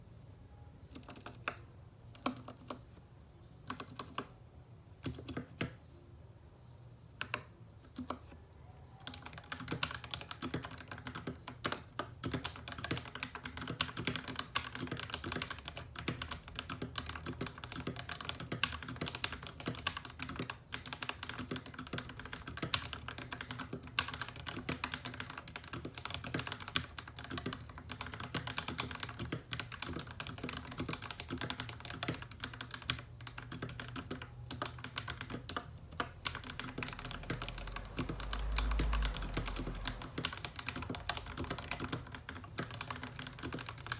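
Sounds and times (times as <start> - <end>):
fast mechanical keyboard typing: 0.9 - 2.8, 3.7 - 4.3, 5.0 - 5.8, 7.2 - 8.3, 9.0 - 43.9.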